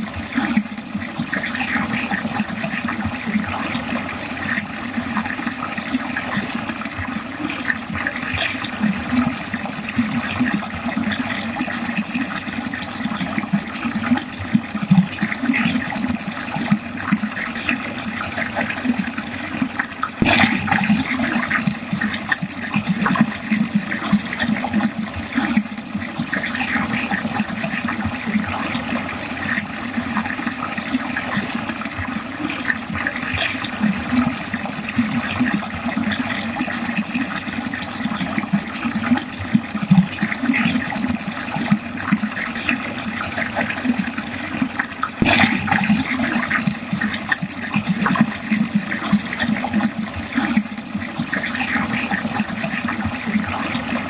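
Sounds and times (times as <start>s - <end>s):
water pouring into a drain: 0.0s - 54.0s.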